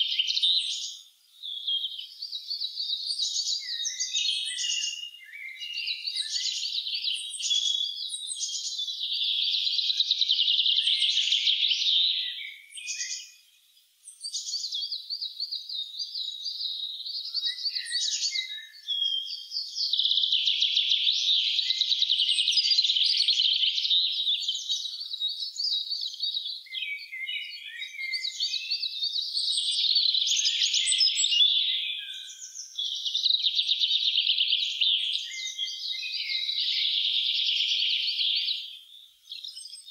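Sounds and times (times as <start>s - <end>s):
bird chirps and calls: 0.0s - 39.9s
songbirds trilling: 0.0s - 39.9s.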